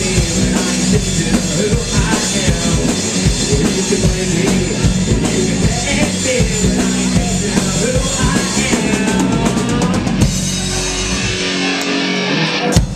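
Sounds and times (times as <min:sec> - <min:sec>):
drum fill: 0:00.0 - 0:12.0
live rock band playing: 0:00.0 - 0:12.9.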